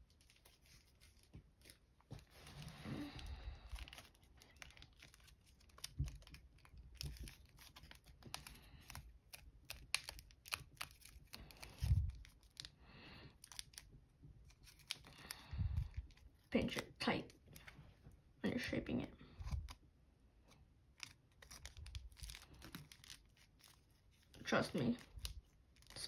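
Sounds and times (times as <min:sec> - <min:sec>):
foil paper crinkling: 0:00.0 - 0:16.8, 0:20.9 - 0:26.0.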